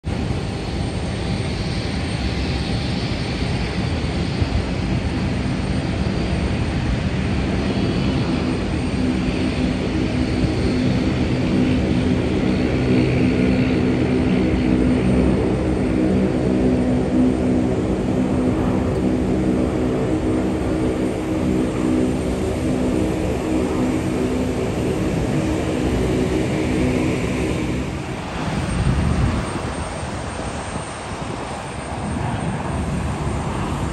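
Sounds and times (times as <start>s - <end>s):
jet engines rushing: 0.0s - 33.9s
low droning hum: 0.1s - 33.9s.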